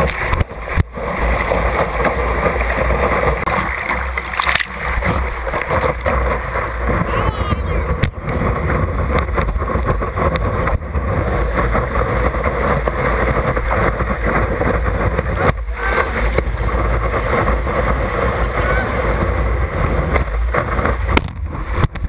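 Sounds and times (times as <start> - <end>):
rushing water: 0.0 - 22.0
wind buffeting camera: 0.0 - 22.0.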